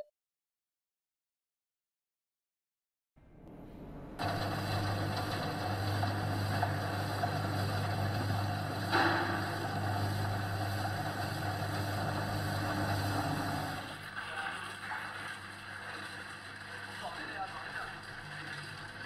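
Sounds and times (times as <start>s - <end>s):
conveyor mechanical hum: 3.2s - 19.0s.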